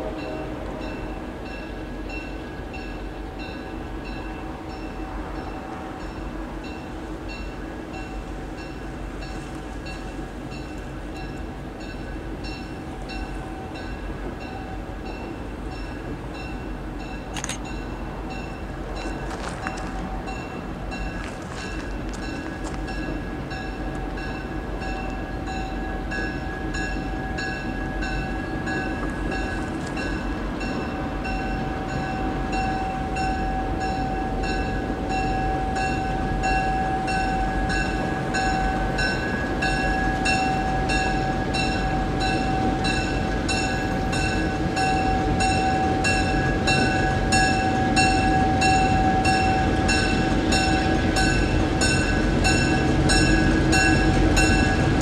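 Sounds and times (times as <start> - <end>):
train bell ringing: 0.0 - 55.0
train low rumble: 0.0 - 55.0.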